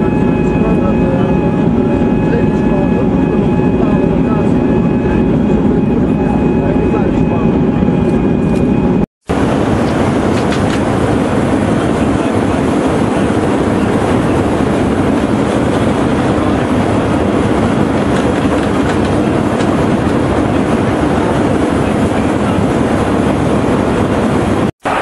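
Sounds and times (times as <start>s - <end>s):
aircraft cabin engine and airflow roar: 0.0s - 25.0s.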